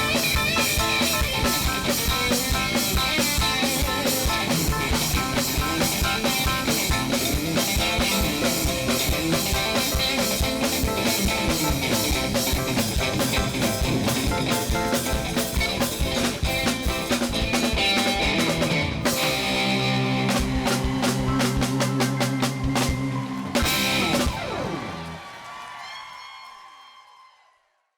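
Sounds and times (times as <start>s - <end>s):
drum kit beat: 0.0s - 25.3s
guitar: 0.0s - 25.5s.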